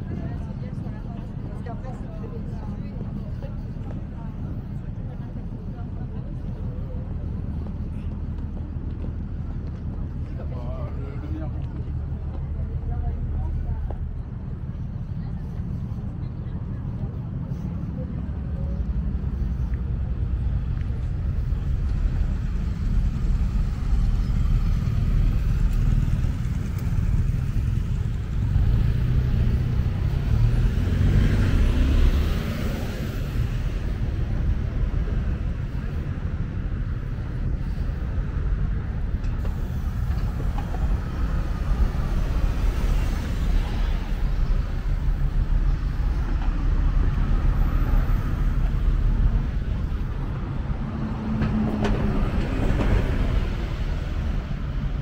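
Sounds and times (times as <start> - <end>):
cars passing: 0.0 - 55.0
steady low traffic rumble: 0.0 - 55.0.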